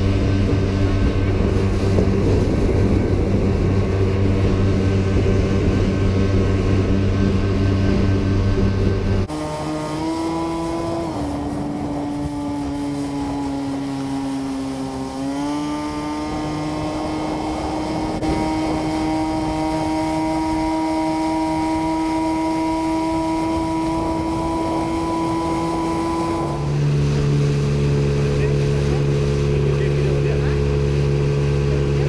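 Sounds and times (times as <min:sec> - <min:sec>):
small engine whining at high revs: 0:00.0 - 0:32.0.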